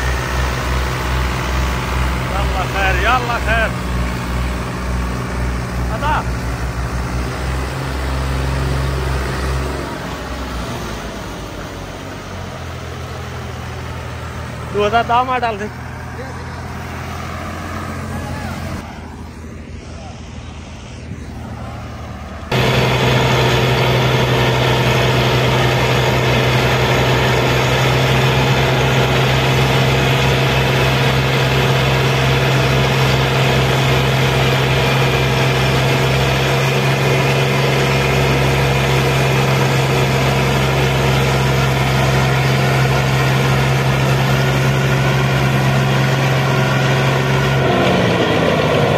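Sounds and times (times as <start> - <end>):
tractor diesel engine: 0.0 - 48.9.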